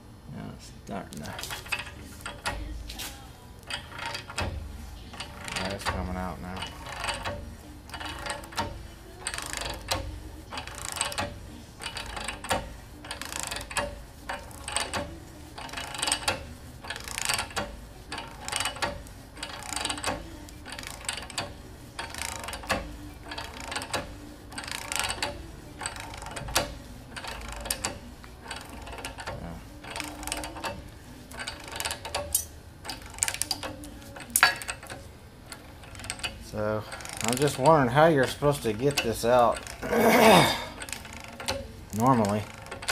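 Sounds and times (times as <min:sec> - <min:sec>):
ratchet wrench clicking: 0:01.3 - 0:42.9.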